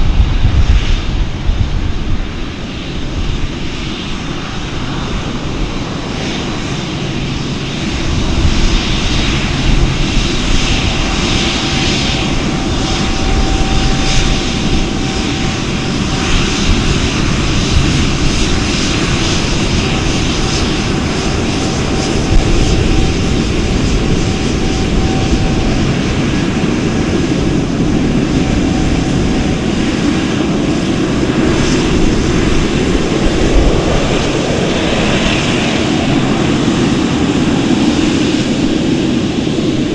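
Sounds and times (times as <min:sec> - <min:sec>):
airplane engines running: 0:00.0 - 0:39.9.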